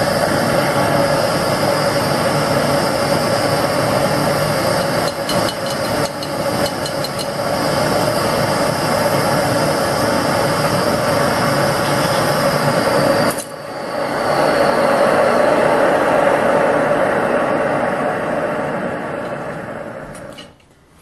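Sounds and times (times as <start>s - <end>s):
gas burner roaring: 0.0s - 20.6s.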